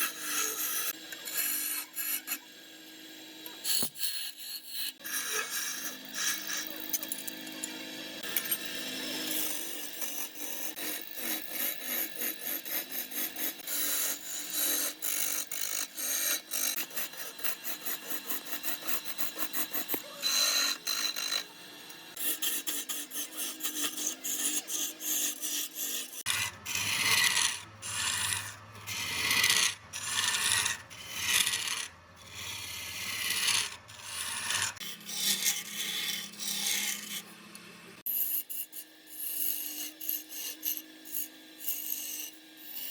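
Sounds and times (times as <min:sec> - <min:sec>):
tool scraping wood: 0:00.0 - 0:02.4, 0:03.5 - 0:38.5.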